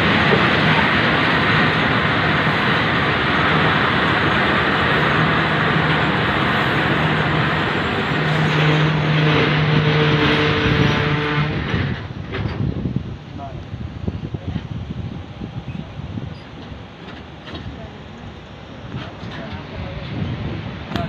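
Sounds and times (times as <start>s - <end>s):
rushing wind: 0.0s - 21.0s
train wheels on rails: 0.0s - 21.0s.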